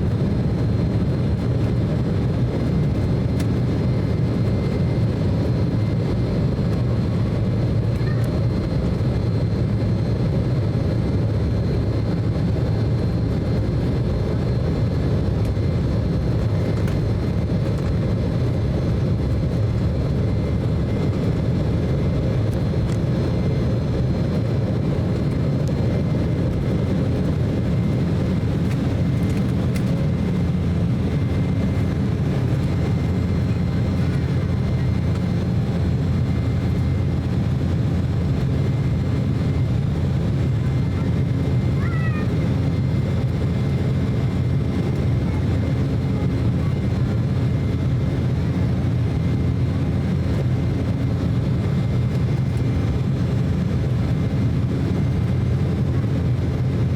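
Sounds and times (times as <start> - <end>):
jet engines droning: 0.0 - 56.9.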